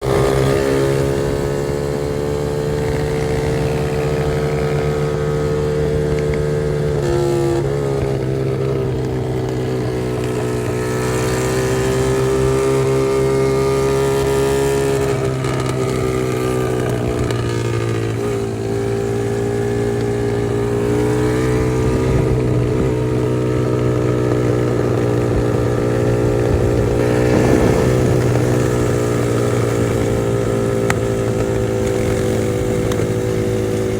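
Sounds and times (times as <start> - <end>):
dirt bike engine running: 0.0 - 33.9.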